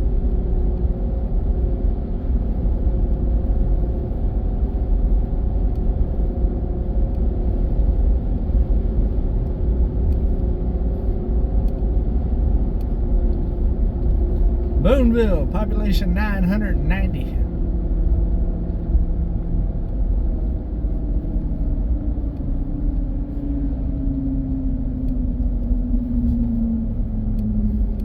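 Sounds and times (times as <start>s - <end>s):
car engine and tyre rumble: 0.0s - 15.6s, 17.2s - 28.0s.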